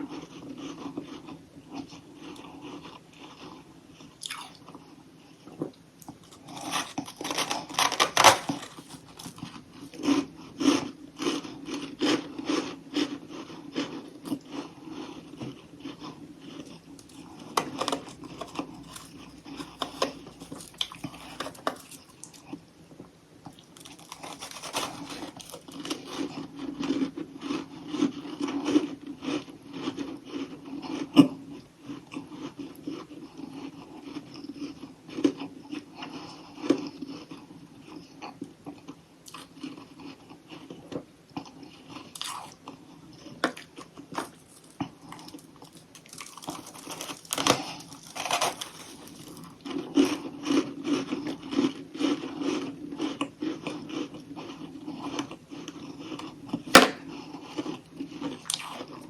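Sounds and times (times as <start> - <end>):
chewing and crunching ice: 0.0 - 4.9, 5.5 - 22.6, 23.4 - 59.0.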